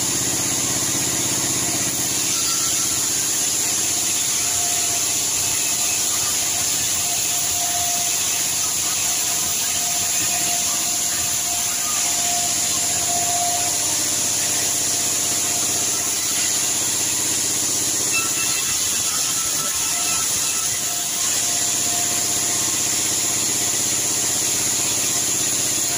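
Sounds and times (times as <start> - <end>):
sawmill saw cutting log: 0.0 - 25.9
faint wavering whine: 1.7 - 23.9.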